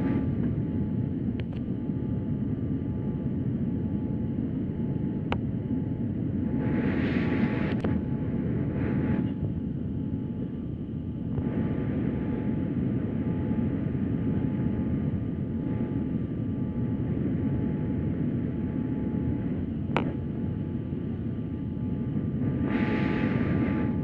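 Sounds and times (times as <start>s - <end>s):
low roar of jet engines: 0.0s - 24.0s
thin whine tones: 0.0s - 24.0s.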